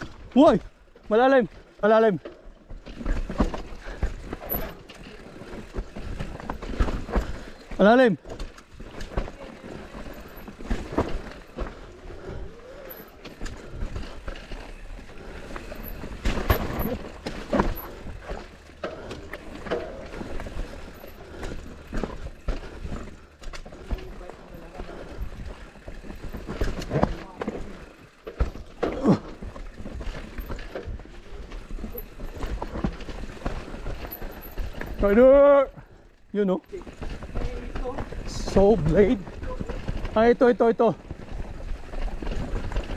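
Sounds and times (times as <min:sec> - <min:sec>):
tyres rumbling on dirt: 0:00.0 - 0:42.9
bike frame rattling and knocking: 0:02.2 - 0:35.5, 0:36.4 - 0:42.9.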